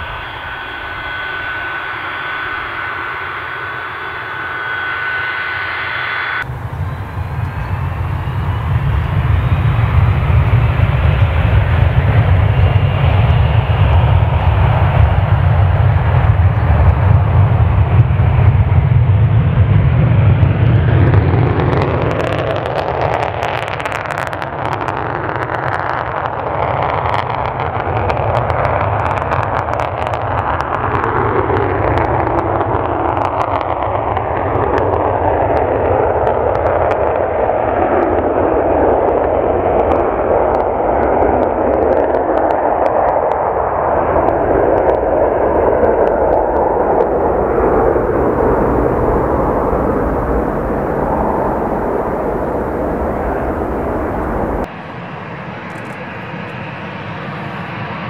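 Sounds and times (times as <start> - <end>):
jet engine roar at takeoff: 0.0 - 58.0.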